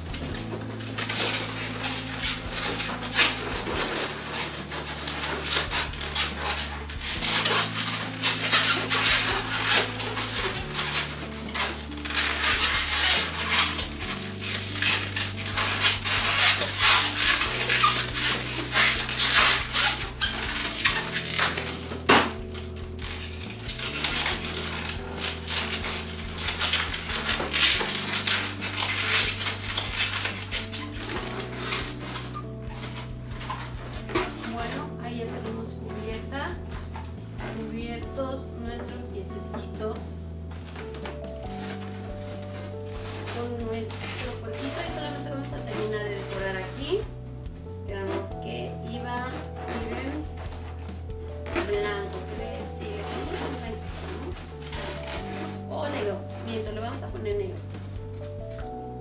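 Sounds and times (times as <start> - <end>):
balloons squeaking and rubbing: 0.0 - 59.0.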